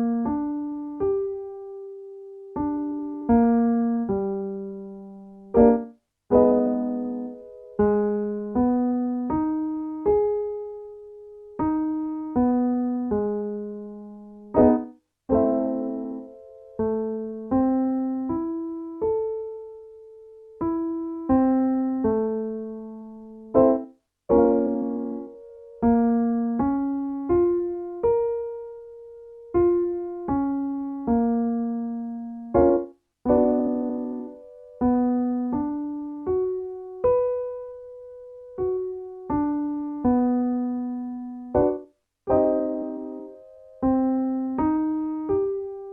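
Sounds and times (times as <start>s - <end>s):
piano vocal warmup pattern: 0.0s - 37.8s, 38.5s - 45.9s.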